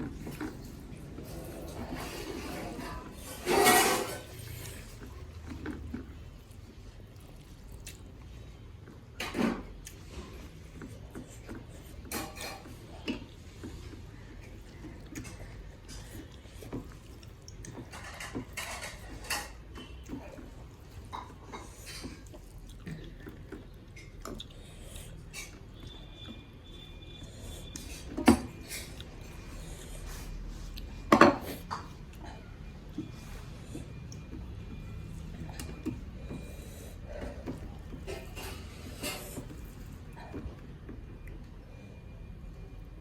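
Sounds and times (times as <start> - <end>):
chewing and slurping: 0.0 - 41.9.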